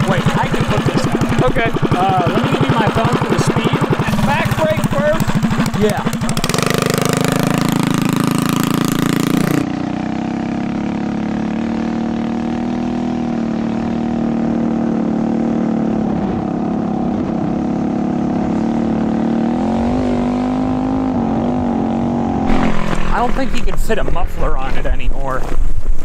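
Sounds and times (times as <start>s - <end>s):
mini bike engine running hard: 0.0s - 24.2s.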